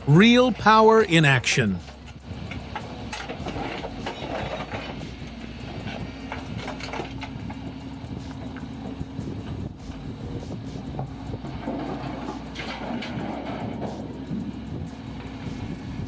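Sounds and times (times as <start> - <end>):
excavator engine running: 0.0 - 16.0
clanks and knocks: 1.8 - 9.6, 10.4 - 15.6.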